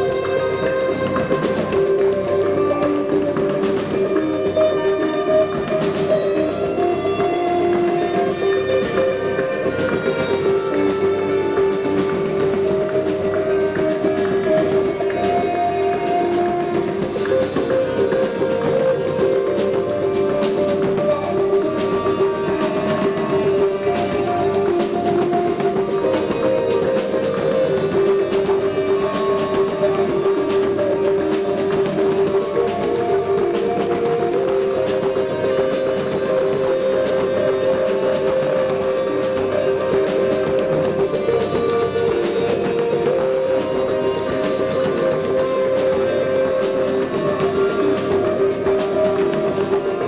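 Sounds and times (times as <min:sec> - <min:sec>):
drums: 0:00.0 - 0:50.0
light cymbal strokes: 0:00.0 - 0:50.0.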